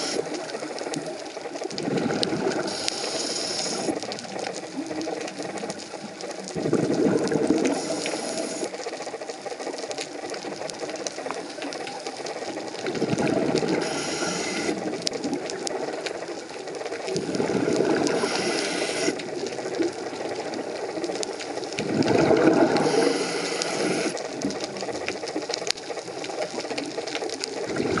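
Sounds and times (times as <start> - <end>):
fine crackle of clicks: 0.0 - 28.0
regulator bubbles and breath hiss: 0.0 - 28.0.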